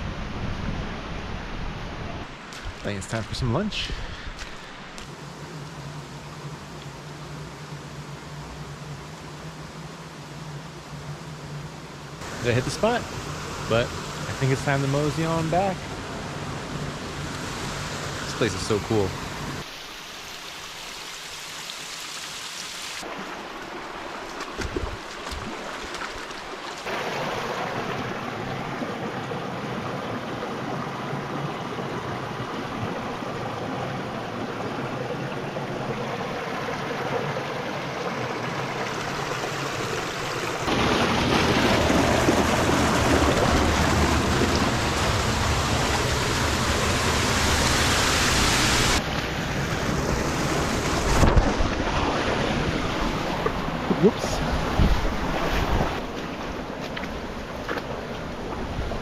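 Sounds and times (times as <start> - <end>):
creek water rushing: 0.0 - 59.0.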